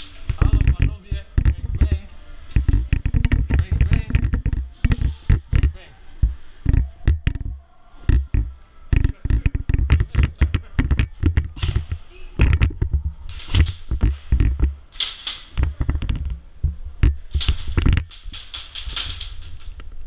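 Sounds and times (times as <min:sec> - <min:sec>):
airsoft gun clicks and knocks: 0:00.0 - 0:05.8, 0:06.6 - 0:07.5, 0:08.1 - 0:16.4, 0:17.0 - 0:19.9.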